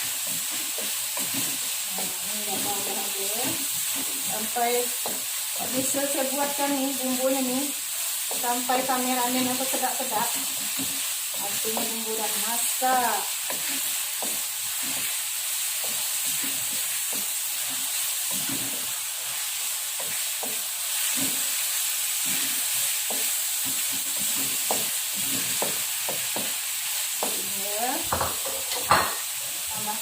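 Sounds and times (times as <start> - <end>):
paste sizzling in hot oil: 0.0 - 30.0
spatula scraping a pan: 0.0 - 30.0.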